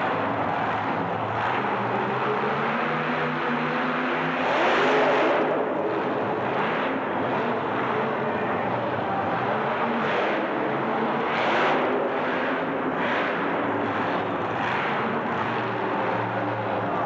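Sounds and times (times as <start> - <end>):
racing truck engine revving: 0.0 - 17.0.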